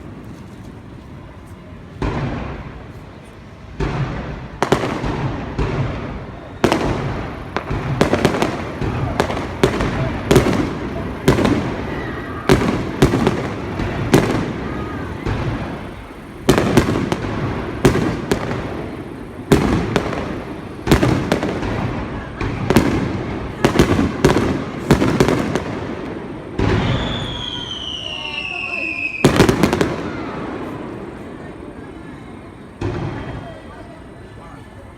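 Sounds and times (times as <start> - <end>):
fireworks bursting with bangs: 0.0 - 34.9.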